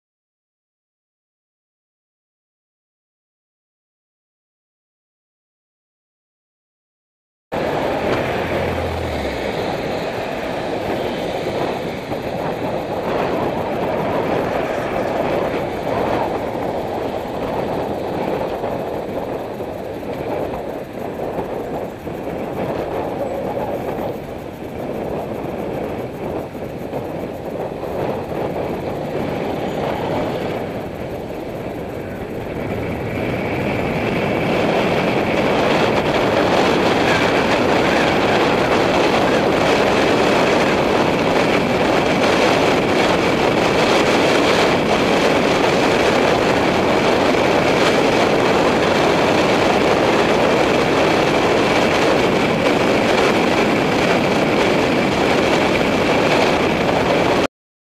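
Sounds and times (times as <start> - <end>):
wind on microphone: 7.5 - 57.5
bicycle tyres rolling on asphalt: 7.6 - 57.5.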